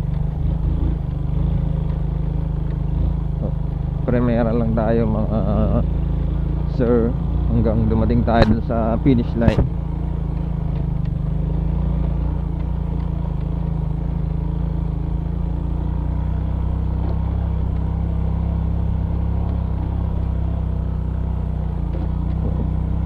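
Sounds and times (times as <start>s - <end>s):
motorcycle engine running: 0.0s - 23.0s
motorcycle rattles: 0.0s - 23.0s.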